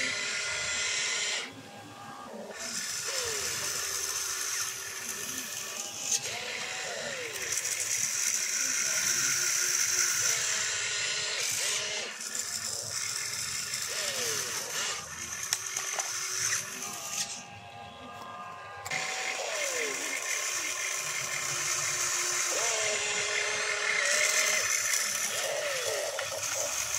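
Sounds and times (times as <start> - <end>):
toy excavator motors whirring: 0.0 - 26.9.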